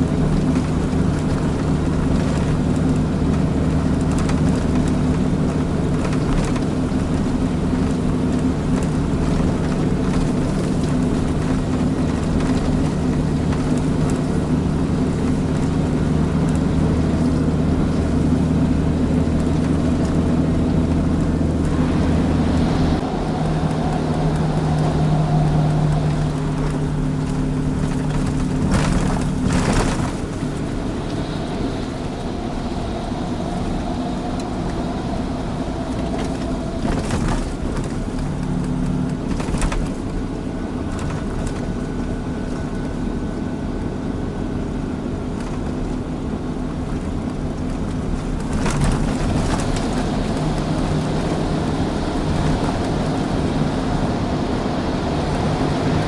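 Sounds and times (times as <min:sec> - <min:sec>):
diesel engine running under load: 0:00.0 - 0:56.0
road rumble: 0:00.0 - 0:56.0.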